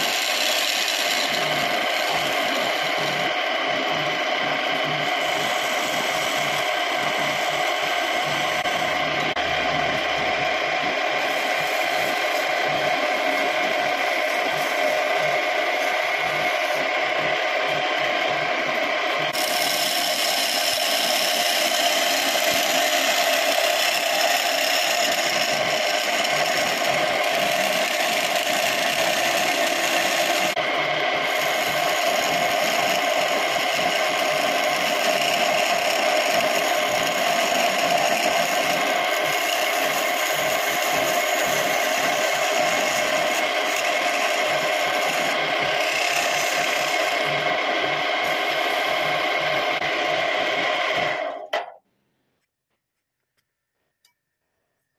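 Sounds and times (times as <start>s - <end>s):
wood lathe turning wood: 0.0s - 51.8s.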